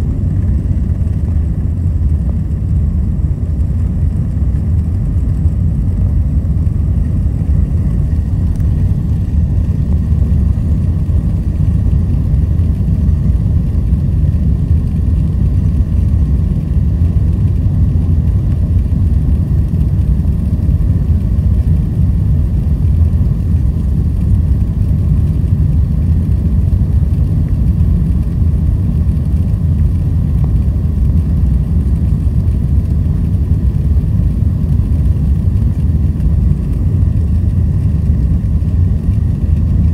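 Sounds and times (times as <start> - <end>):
jet cabin engine roar: 0.0 - 39.9.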